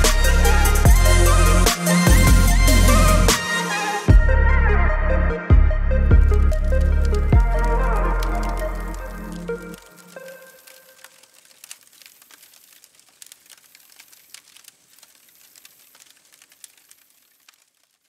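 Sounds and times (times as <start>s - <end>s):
wood fire crackling: 0.0s - 3.8s, 6.1s - 18.0s.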